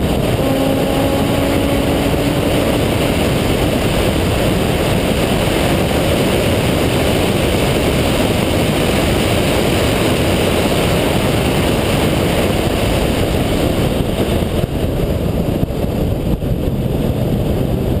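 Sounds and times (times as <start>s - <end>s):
rotary engine running at speed: 0.0s - 18.0s
wind and road noise: 0.0s - 18.0s.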